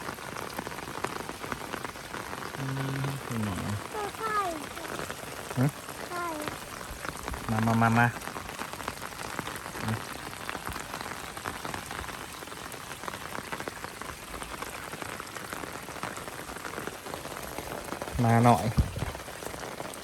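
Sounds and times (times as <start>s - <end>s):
rain falling: 0.0s - 20.0s
raindrops hitting near microphone: 0.0s - 20.0s.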